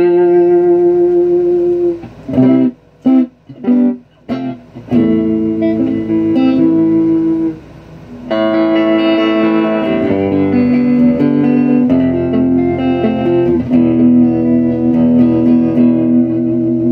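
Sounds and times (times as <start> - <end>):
electric guitar chords: 0.0 - 16.9.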